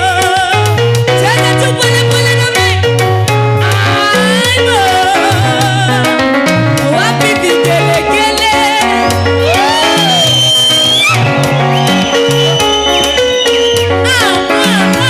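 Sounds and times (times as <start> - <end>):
bass line: 0.0 - 15.0
vibrato lead melody: 0.0 - 15.0.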